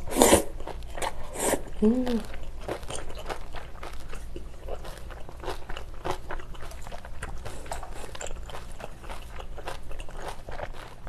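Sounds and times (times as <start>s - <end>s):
wet chewing clicks: 0.3s - 11.0s.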